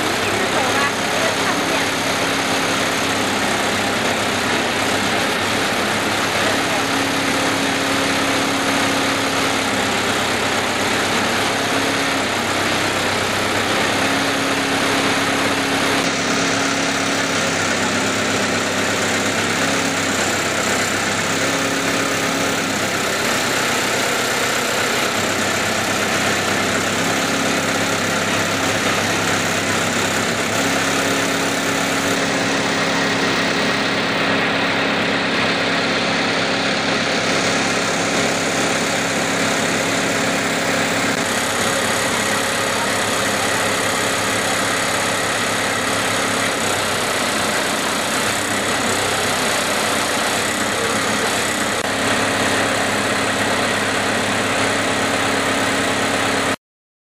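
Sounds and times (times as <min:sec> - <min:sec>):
drilling rig engine running: 0:00.0 - 0:56.6.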